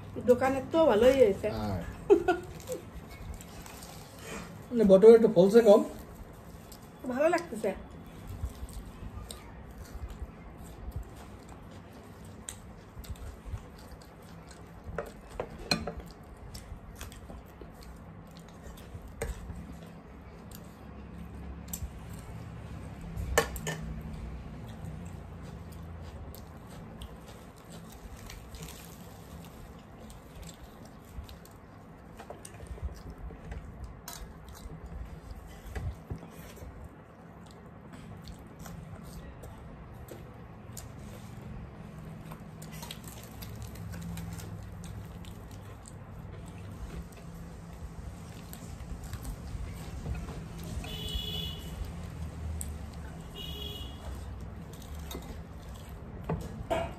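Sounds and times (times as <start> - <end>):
chewing and squishing food: 0.0 - 56.9.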